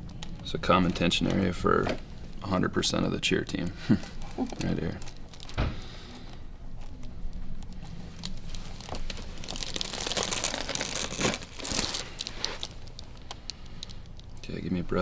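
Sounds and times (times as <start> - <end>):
crinkling and rustling: 0.0 - 14.6.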